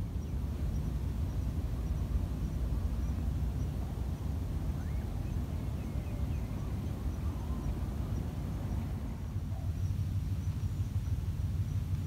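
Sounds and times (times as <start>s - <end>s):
faint bird chirps: 0.1s - 11.8s.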